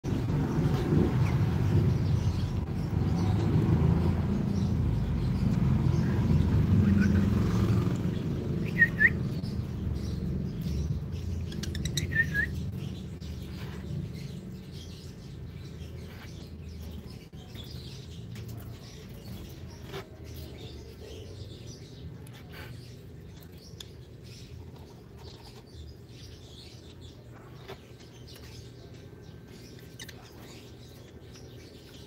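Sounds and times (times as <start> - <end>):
lovebirds chirping: 0.0 - 32.0.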